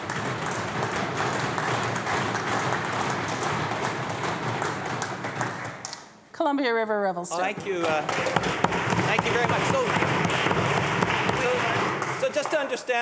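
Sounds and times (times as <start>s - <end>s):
crowd applauding: 0.0s - 5.9s, 7.5s - 13.0s.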